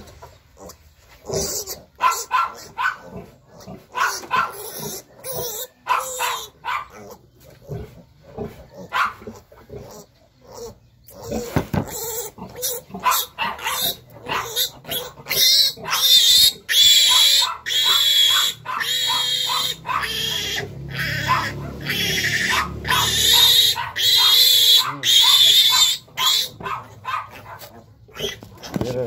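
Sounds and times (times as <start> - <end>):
piglets squealing: 0.6 - 28.8.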